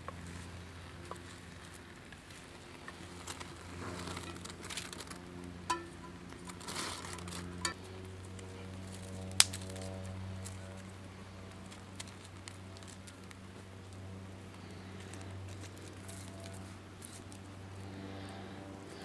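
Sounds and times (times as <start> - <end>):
campfire crackling and popping: 0.0 - 17.7.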